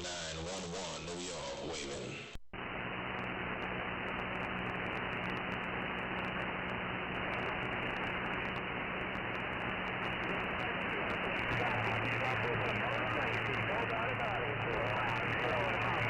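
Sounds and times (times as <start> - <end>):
faint low hum: 0.0 - 16.0
radio static hiss: 0.0 - 16.0.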